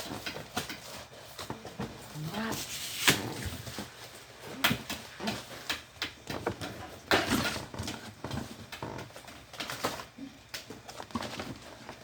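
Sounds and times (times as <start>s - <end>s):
knocks of packed items: 0.0s - 12.0s
rustling of items in a box: 0.0s - 12.0s.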